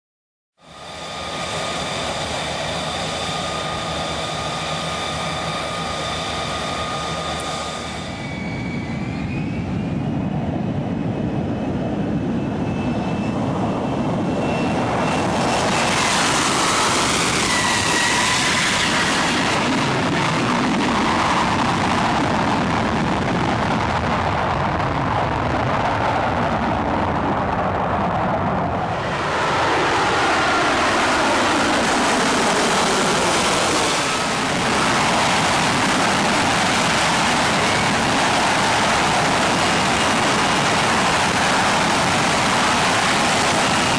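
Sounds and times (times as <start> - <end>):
jet engine high whine: 0.6 - 43.9
jet rushing roar: 0.6 - 43.9.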